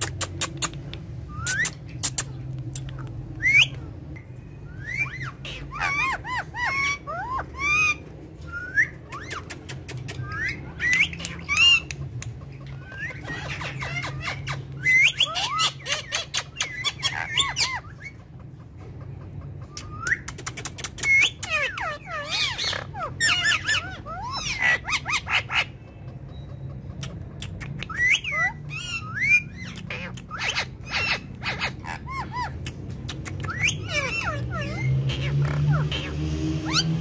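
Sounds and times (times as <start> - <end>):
parakeets chirping and squawking: 0.0 - 37.0.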